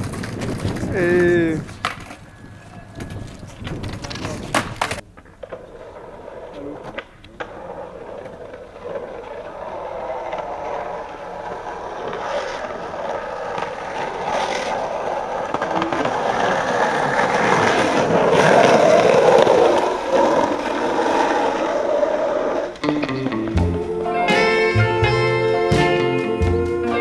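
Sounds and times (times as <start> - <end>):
skateboard wheels rolling on pavement: 0.0 - 27.0.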